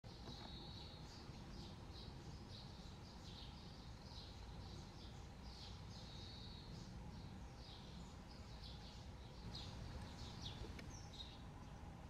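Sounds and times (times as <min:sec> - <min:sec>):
faint low background noise: 0:00.0 - 0:12.0.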